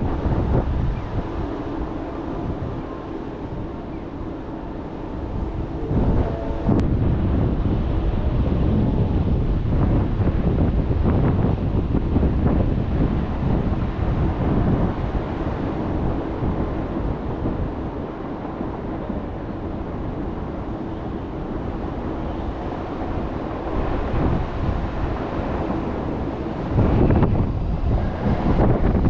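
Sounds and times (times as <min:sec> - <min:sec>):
rumble of city and railway traffic: 0:00.0 - 0:29.0
wind buffeting microphone: 0:00.0 - 0:29.0.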